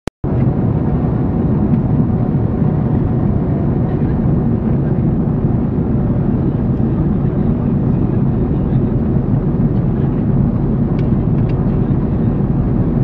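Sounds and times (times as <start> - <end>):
airliner engine drone in cabin: 0.2 - 13.0.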